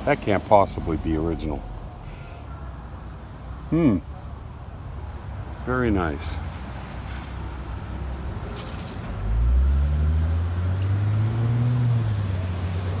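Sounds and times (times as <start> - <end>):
road vehicle engine: 0.0 - 13.0.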